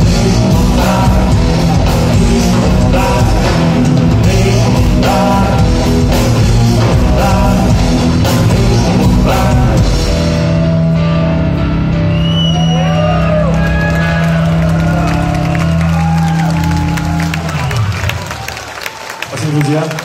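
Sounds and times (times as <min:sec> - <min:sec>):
live rock band playing: 0:00.0 - 0:18.4.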